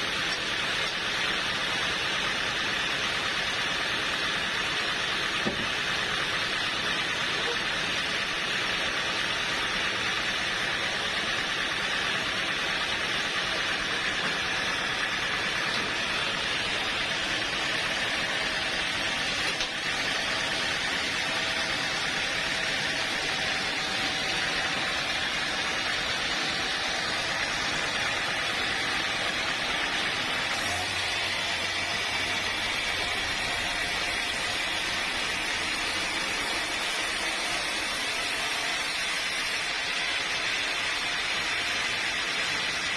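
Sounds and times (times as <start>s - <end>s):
sawmill machinery droning: 0.0s - 42.9s.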